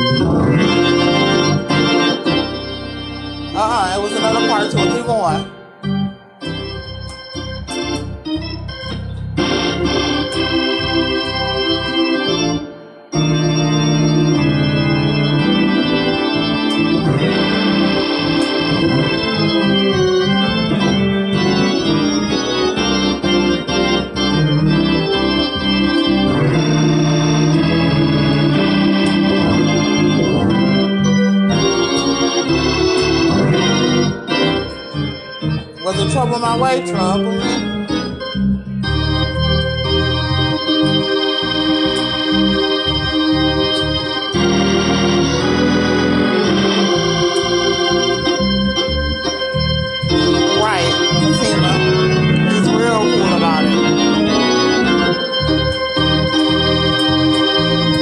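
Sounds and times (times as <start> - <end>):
organ playing full chords: 0.0 - 58.0.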